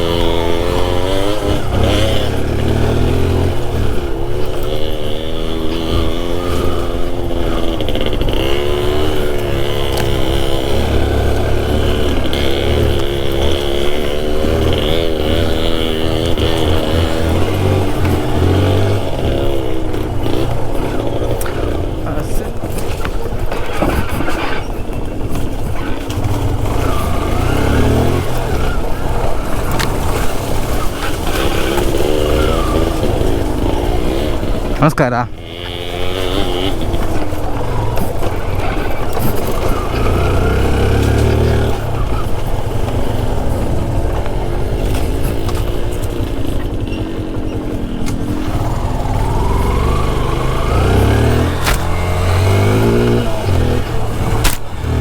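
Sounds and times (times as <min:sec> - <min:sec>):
two-stroke motorcycle engine revving: 0:00.0 - 0:55.0.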